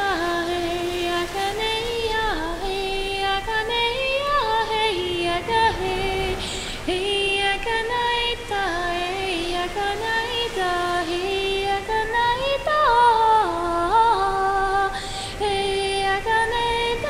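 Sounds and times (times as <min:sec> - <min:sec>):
woman singing wordless melody: 0:00.0 - 0:17.0.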